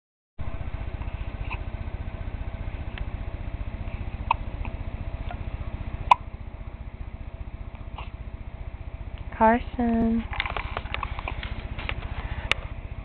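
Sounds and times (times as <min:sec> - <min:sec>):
steady low hum: 0:00.4 - 0:13.0.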